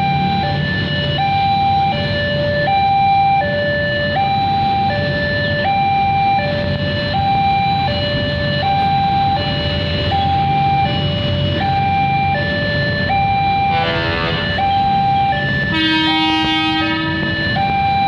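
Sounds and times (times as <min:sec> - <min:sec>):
two-tone electronic warning signal: 0:00.0 - 0:18.0.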